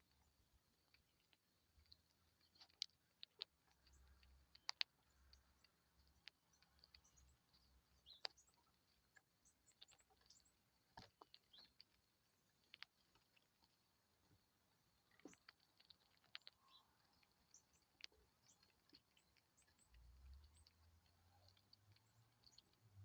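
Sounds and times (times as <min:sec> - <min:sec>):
faint sharp clicks and taps: 0:00.0 - 0:23.0
small birds chirping: 0:00.0 - 0:23.0.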